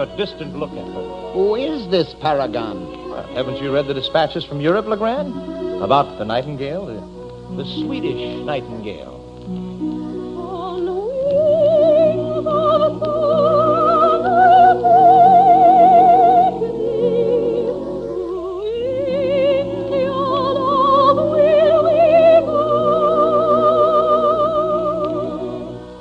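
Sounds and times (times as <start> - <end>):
soprano singing with vibrato: 0.0 - 9.0, 9.8 - 26.0
orchestral accompaniment: 0.0 - 25.9.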